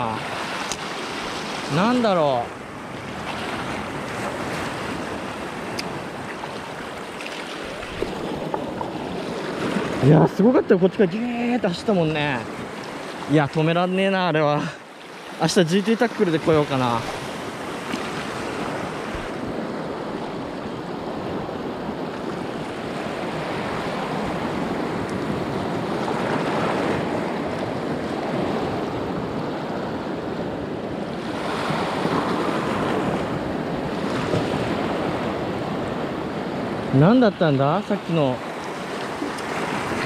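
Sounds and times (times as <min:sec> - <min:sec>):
sea surf washing: 0:00.0 - 0:40.0.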